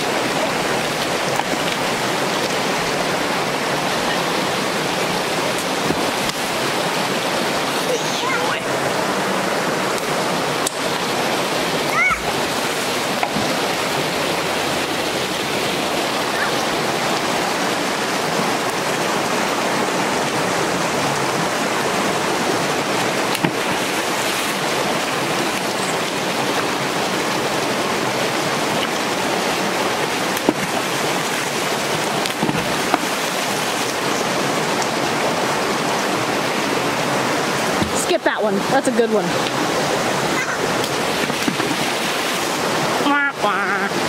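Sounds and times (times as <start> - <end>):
creek running over rocks: 0.0 - 44.0.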